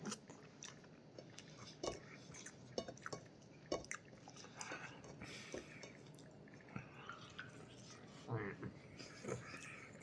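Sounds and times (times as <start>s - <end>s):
person chewing wetly: 0.0s - 10.0s.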